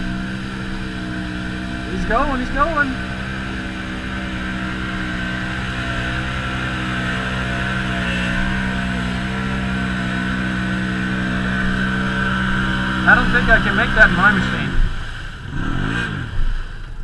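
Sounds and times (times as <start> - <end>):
engine at high revs: 0.0 - 17.0
wheels churning mud: 0.0 - 17.0.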